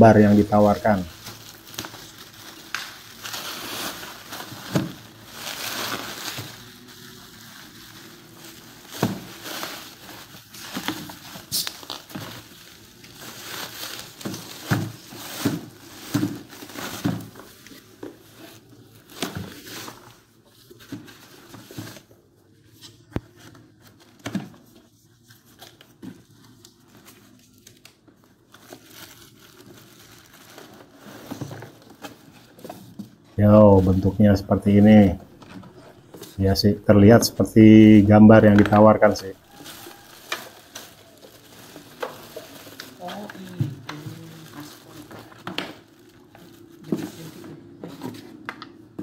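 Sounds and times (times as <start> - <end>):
bubble wrap crinkling: 0.0 - 22.2, 23.0 - 36.7, 37.4 - 49.0.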